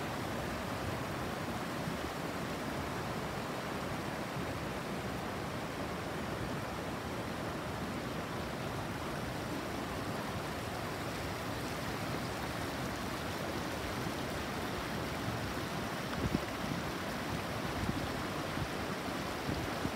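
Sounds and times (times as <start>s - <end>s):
stream water flowing over stones: 0.0s - 19.9s.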